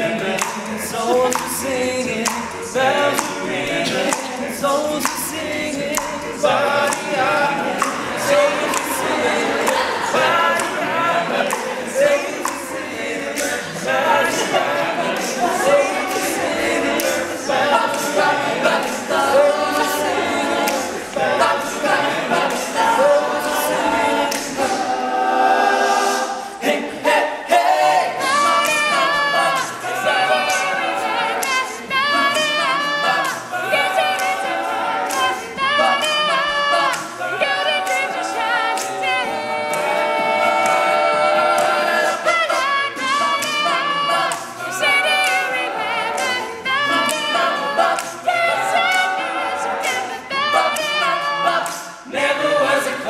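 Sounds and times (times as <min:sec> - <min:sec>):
men singing a cappella: 0:00.0 - 0:53.0.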